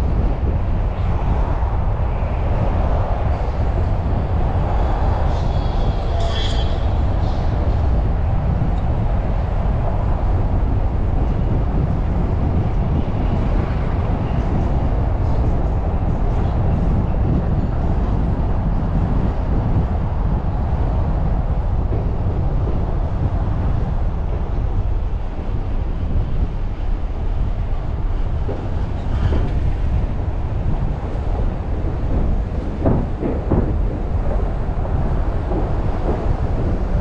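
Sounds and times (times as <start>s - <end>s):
road and traffic rumble: 0.0s - 37.0s.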